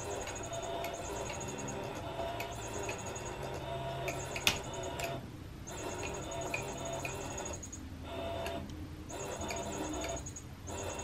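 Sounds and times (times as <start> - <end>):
toy motor whirring: 0.0 - 11.0.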